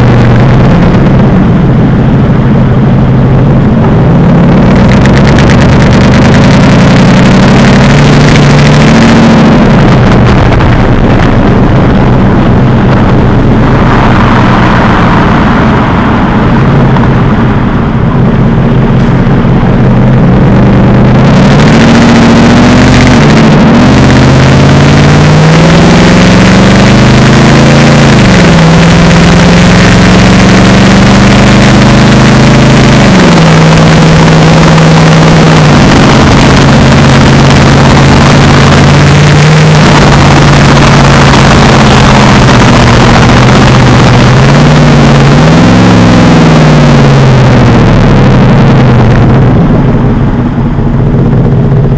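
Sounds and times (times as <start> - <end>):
car engine revving loudly: 0.0 - 51.9.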